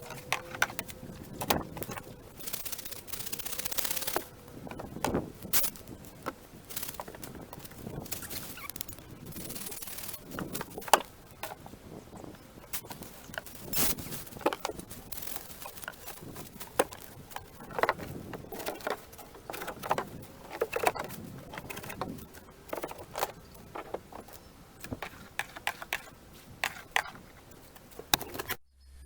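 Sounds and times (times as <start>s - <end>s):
tree branches knocking and rustling: 0.0s - 28.6s.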